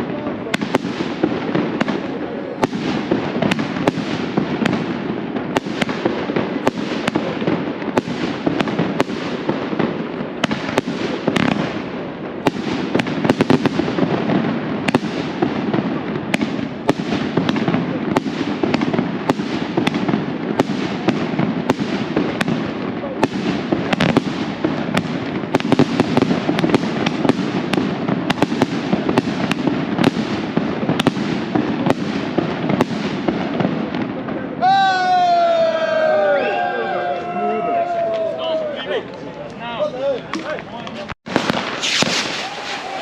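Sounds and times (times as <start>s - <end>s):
firecrackers crackling and banging: 0.0s - 34.6s, 38.9s - 43.0s.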